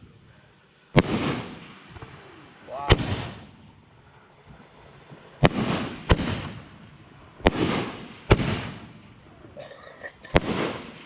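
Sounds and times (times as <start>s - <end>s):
fireworks bangs: 0.9s - 9.3s, 10.2s - 11.0s.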